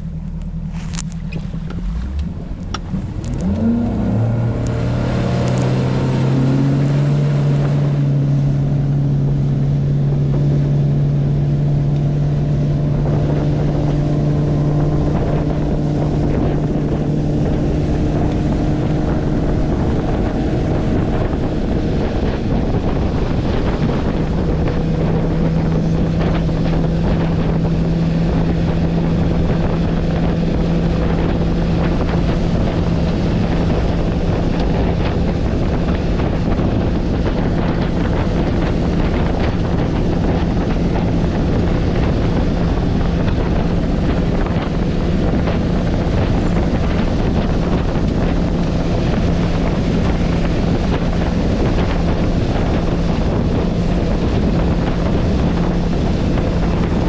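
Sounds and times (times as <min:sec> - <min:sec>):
outboard engine at full throttle: 0:00.0 - 0:57.0
wind buffeting microphone: 0:00.0 - 0:57.0.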